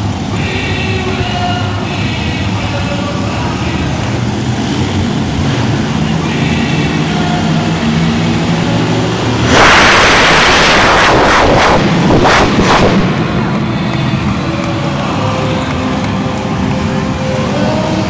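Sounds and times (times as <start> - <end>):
monster truck engine rumbling: 0.0 - 18.0.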